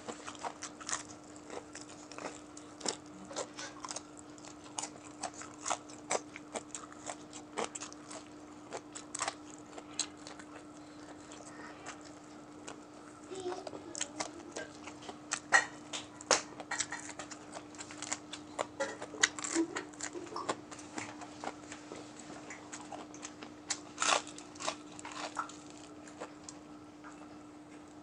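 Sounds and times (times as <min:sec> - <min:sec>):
man crunching fried chicken: 0:00.0 - 0:12.9, 0:14.0 - 0:21.8, 0:22.5 - 0:26.6
faint steady hum: 0:00.0 - 0:28.0.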